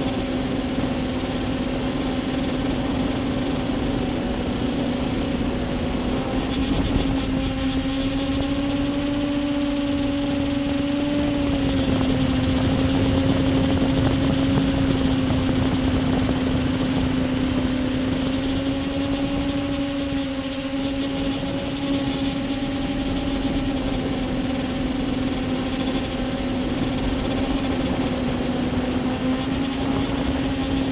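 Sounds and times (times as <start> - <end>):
drone motors humming: 0.0 - 30.9
thin high whine: 0.0 - 30.9.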